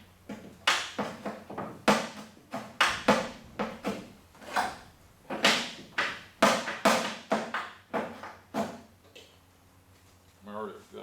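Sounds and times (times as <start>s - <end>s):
sharp knocks and clicks: 0.3s - 9.4s.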